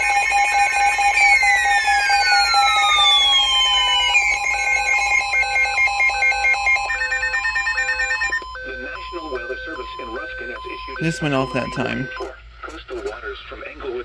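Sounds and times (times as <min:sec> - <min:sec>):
steady electronic tones: 0:00.0 - 0:12.4
weather alert radios beeping: 0:00.0 - 0:12.4.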